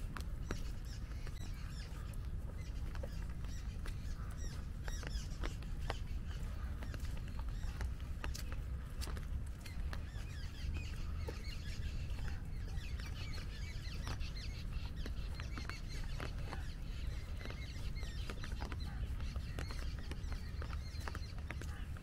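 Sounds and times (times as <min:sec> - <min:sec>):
parrots and birds calling: 0:00.0 - 0:22.0.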